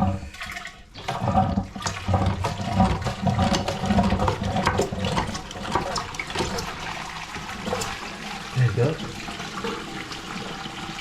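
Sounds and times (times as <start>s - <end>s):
toilet flushing: 0.0s - 11.0s.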